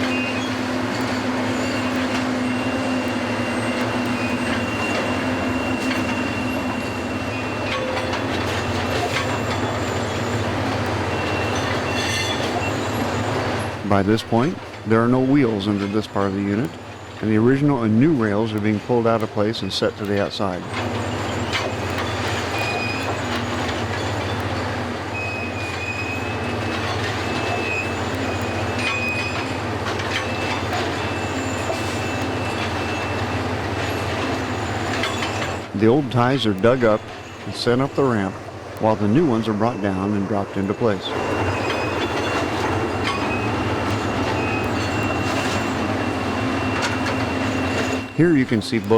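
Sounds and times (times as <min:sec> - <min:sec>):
thin high squeal: 0:00.0 - 0:13.4, 0:20.8 - 0:24.5, 0:25.1 - 0:48.9.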